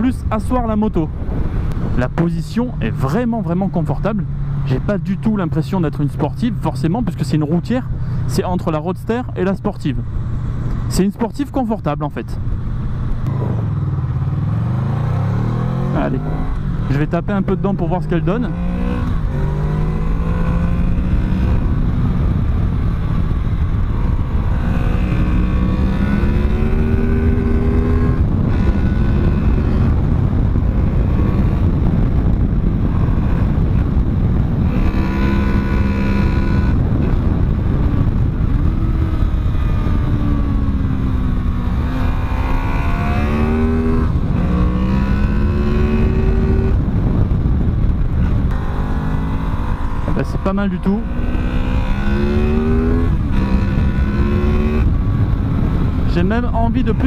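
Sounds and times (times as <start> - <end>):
motorcycle engine accelerating: 0.0 - 11.1, 12.3 - 57.0
low rush of wind: 0.0 - 57.0.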